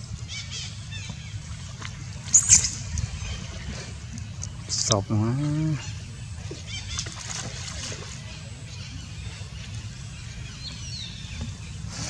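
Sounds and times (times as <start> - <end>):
low steady rumble: 0.0 - 12.0
water sloshing and lapping: 0.0 - 12.0.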